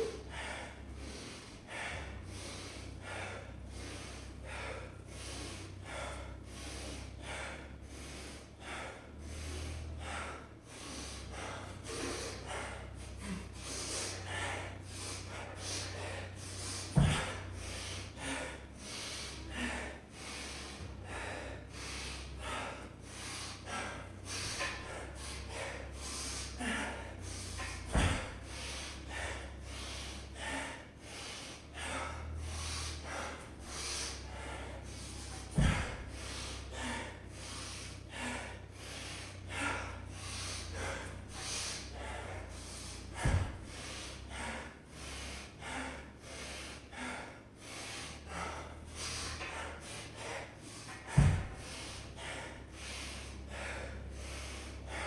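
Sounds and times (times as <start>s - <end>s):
person breathing hard: 0.0s - 55.0s.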